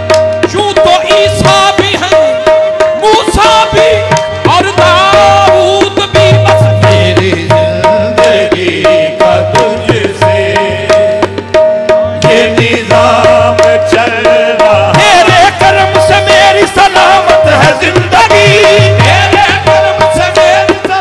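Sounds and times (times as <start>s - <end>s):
tabla rhythm: 0.0s - 21.0s.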